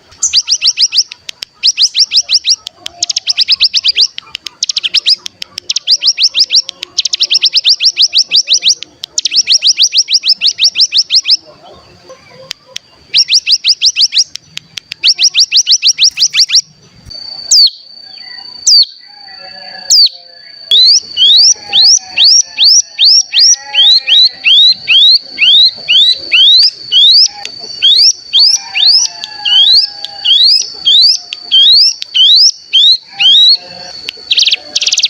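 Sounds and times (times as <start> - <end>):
sharp rising bird chirps: 0.0 - 11.5, 13.0 - 35.0.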